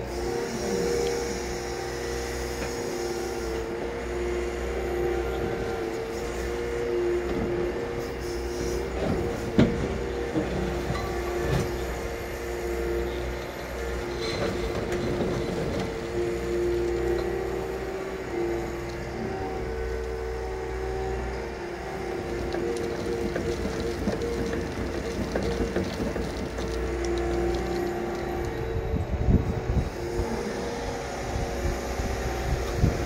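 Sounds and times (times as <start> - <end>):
excavator engine rumbling: 0.0 - 33.0.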